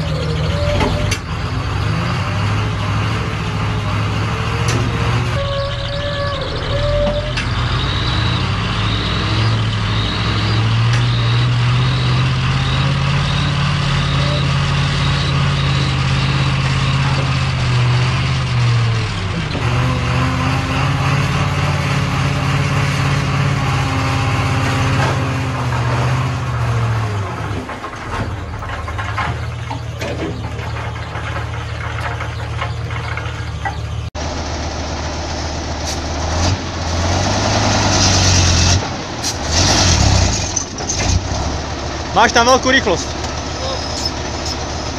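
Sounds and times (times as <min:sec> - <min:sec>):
heavy truck engine running: 0:00.0 - 0:44.9.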